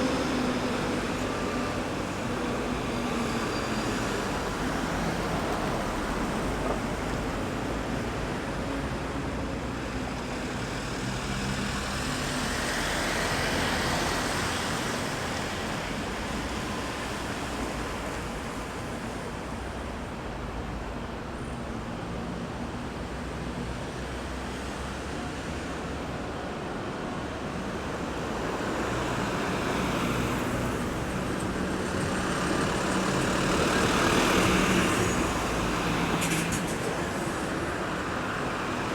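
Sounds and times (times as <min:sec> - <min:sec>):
road traffic passing: 0:00.0 - 0:38.9.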